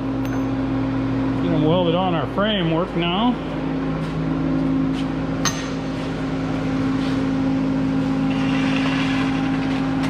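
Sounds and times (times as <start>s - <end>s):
mechanical hum: 0.0s - 10.0s.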